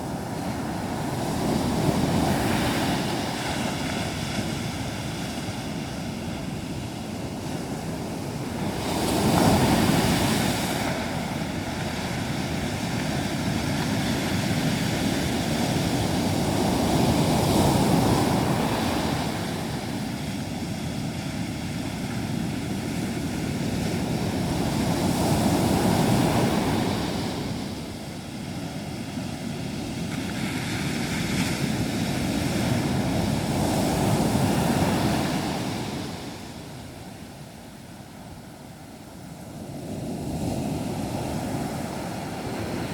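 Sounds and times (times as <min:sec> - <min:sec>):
waves breaking on a beach: 0:00.0 - 0:42.9.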